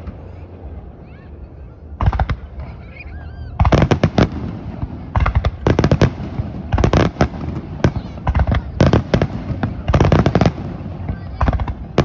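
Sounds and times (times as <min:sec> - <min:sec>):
fireworks bangs and crackles: 0:01.9 - 0:12.0.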